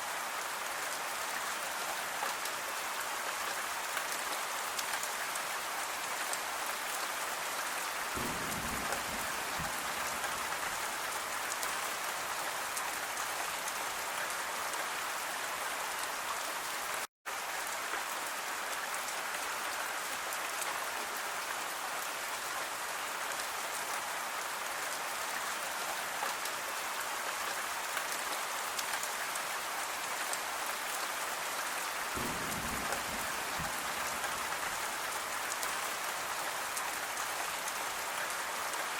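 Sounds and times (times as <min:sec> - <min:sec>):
gentle rain pattering: 0:00.0 - 0:38.9.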